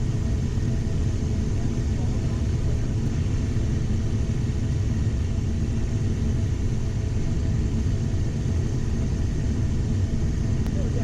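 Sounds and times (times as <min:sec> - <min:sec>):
turbofan engine drone: 0:00.0 - 0:11.0.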